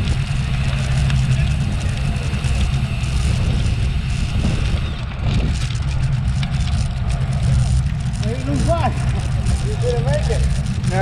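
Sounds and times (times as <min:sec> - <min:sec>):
road and tyre noise: 0:00.0 - 0:11.0
wind rumble on microphone: 0:00.0 - 0:11.0.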